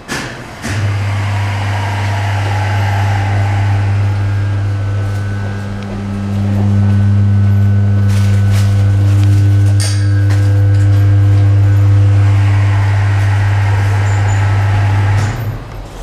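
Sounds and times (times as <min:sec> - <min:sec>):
lift motor humming: 0:00.0 - 0:16.0.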